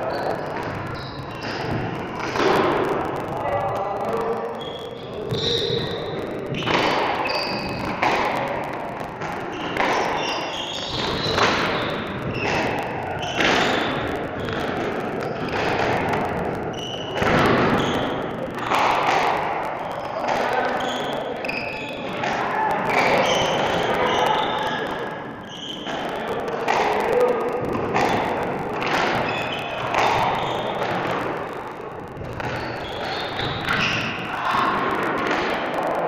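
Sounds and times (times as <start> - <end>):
background voices: 0.0 - 36.0.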